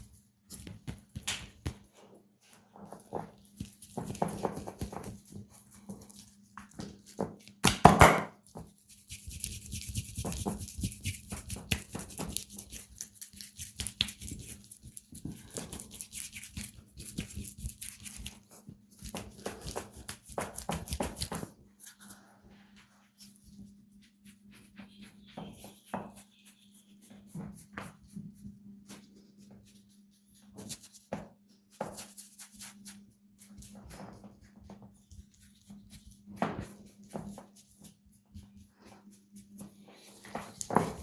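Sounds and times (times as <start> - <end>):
hands rubbing and patting skin: 0.0 - 1.9, 2.9 - 7.8, 8.4 - 41.0.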